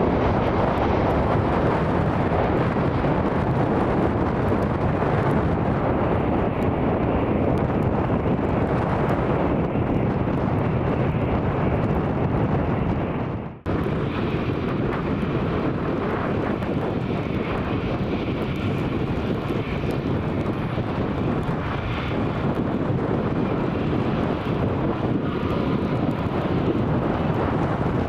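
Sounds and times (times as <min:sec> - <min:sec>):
jet engines running: 0:00.0 - 0:28.0
wind buffeting microphone: 0:00.0 - 0:28.0.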